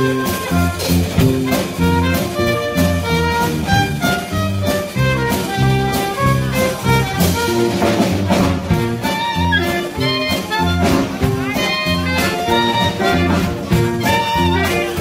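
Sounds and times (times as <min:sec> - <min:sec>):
big-band swing music: 0:00.0 - 0:15.0.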